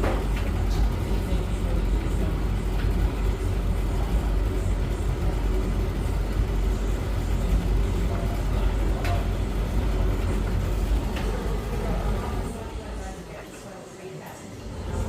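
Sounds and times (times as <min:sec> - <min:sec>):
washing machine and dryer humming: 0:00.0 - 0:15.0.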